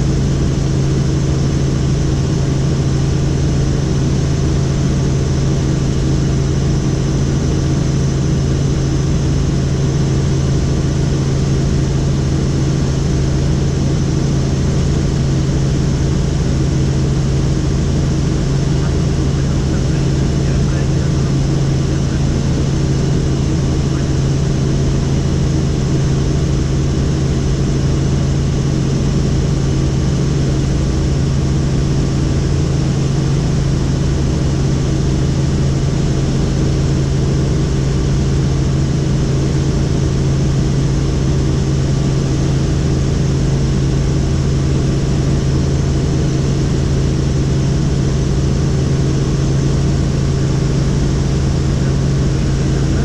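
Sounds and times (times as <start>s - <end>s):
helicopter rotor and engine drone: 0.0s - 53.0s.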